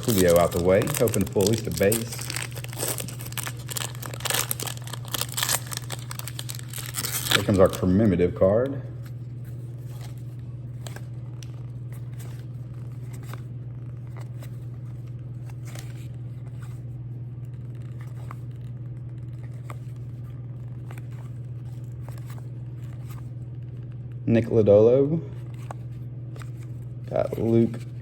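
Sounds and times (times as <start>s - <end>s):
trading cards being handled: 0.0s - 24.0s, 25.4s - 28.0s
low hum: 0.0s - 28.0s.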